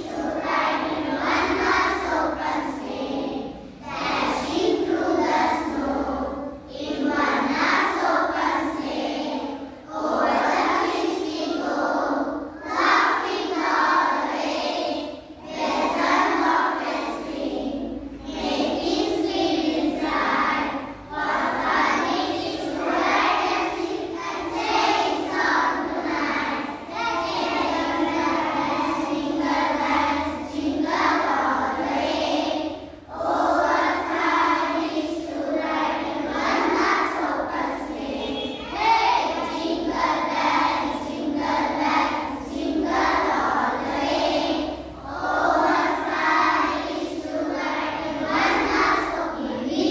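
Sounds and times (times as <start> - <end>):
children singing together: 0.0 - 49.9.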